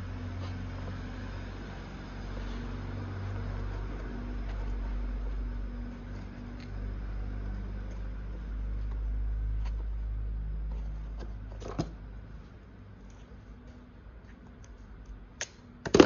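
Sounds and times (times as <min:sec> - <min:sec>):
low background hum: 0:00.0 - 0:16.0
hands rustling wires and connectors: 0:02.5 - 0:15.6.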